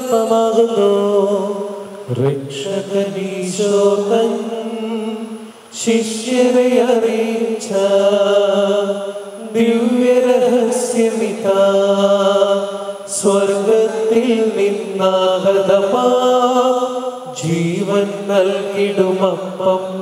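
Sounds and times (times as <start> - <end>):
hymn sung in chant style: 0.0 - 20.0.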